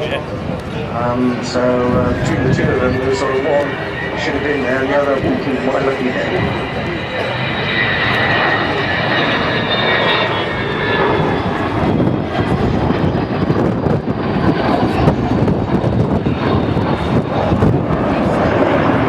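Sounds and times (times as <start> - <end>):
jet bomber flying past: 0.0 - 19.0.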